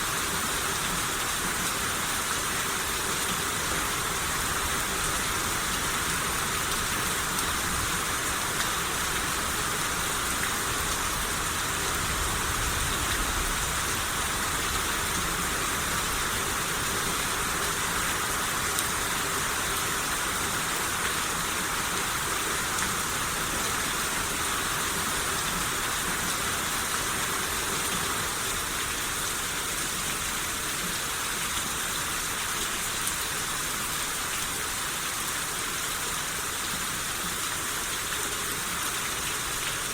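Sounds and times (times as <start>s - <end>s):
rain falling: 0.0s - 39.9s
raindrops pattering on surfaces: 0.0s - 39.9s.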